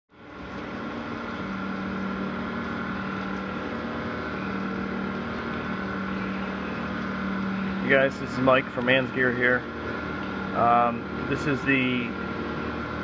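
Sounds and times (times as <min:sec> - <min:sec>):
milling machine hum and whine: 0:00.1 - 0:13.0.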